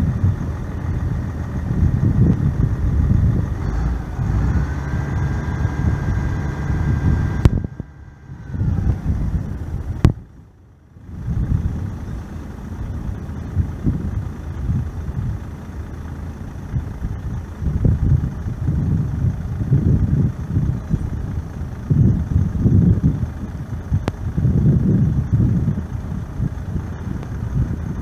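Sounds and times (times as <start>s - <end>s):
diesel truck engine rumbling: 0.0s - 28.0s.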